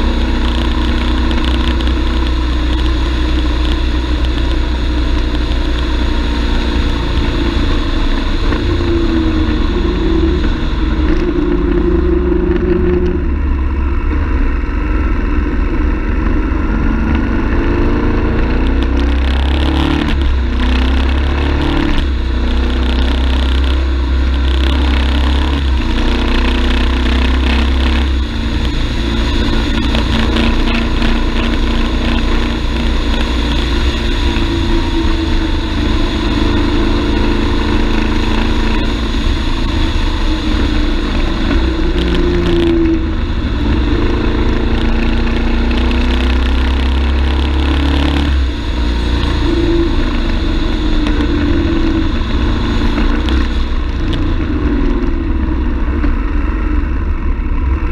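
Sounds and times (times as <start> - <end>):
motorcycle engine running: 0.0 - 57.9
wind rumble on microphone: 0.0 - 57.9.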